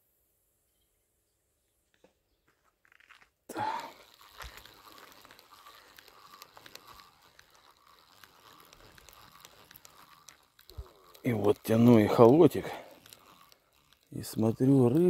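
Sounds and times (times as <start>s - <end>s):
fishing reel cranking and rustling: 2.8s - 15.0s.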